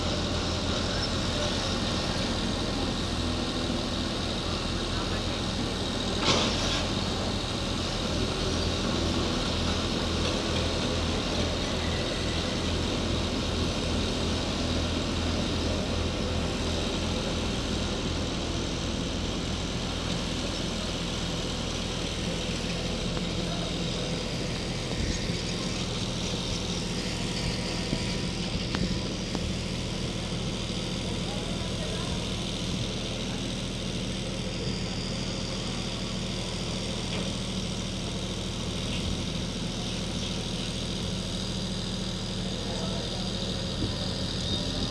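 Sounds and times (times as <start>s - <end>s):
backhoe diesel engine running: 0.0s - 44.9s.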